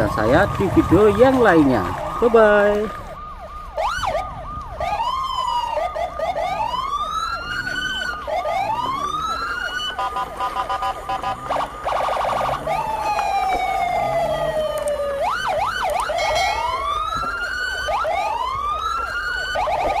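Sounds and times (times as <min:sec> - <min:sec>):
emergency vehicle sirens: 0:00.0 - 0:20.0.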